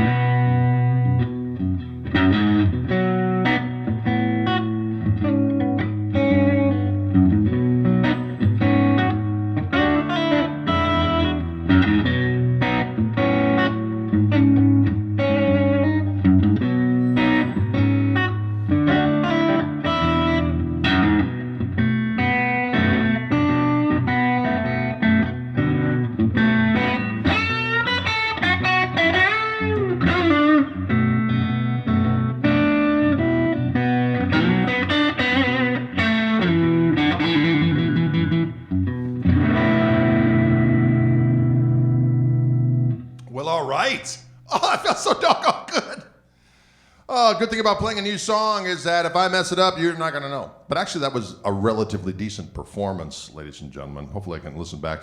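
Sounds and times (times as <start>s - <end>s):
electric guitar blues shuffle: 0.0s - 52.8s.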